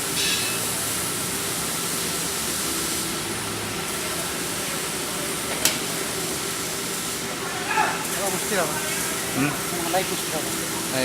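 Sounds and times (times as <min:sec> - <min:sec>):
welding machine hissing: 0:00.0 - 0:11.0.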